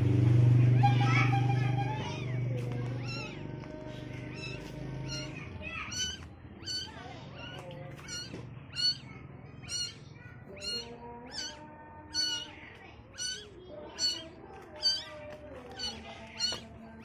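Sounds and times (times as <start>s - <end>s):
kitten meowing: 1.0s - 3.5s, 4.2s - 16.7s.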